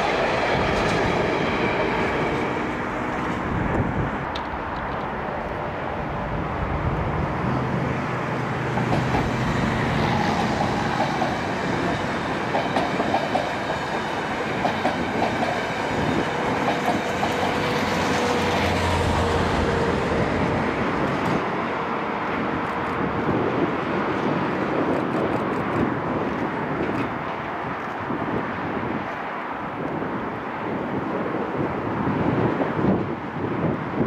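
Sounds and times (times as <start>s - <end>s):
passenger train rumbling past: 0.0s - 34.0s.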